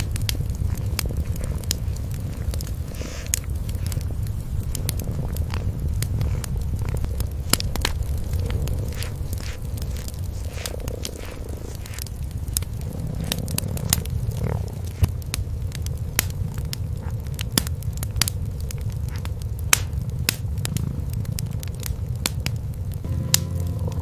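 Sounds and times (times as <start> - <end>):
cats purring: 0.0 - 24.0
wood fire crackling: 0.0 - 24.0.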